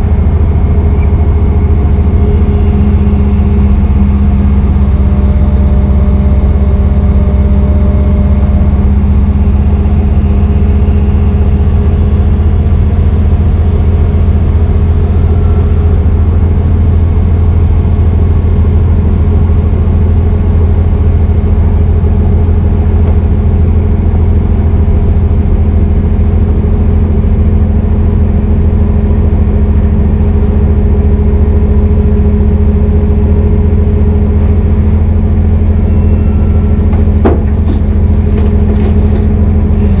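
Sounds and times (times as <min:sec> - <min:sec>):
excavator diesel engine drone: 0:00.0 - 0:40.0.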